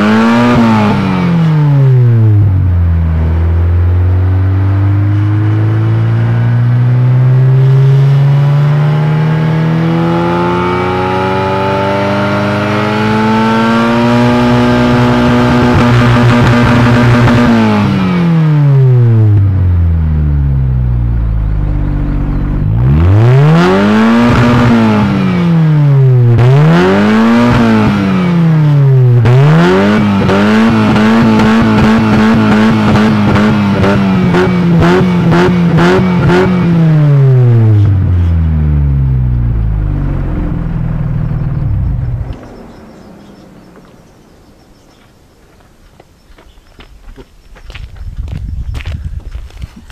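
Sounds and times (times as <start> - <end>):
car engine revving: 0.0 - 45.1.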